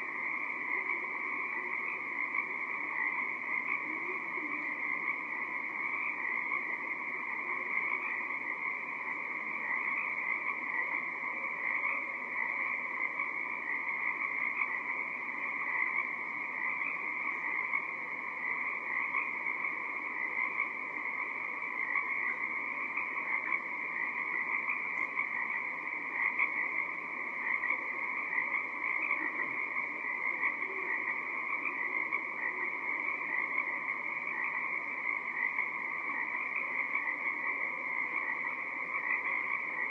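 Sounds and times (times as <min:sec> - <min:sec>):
tree frogs chorus: 0:00.0 - 0:39.9.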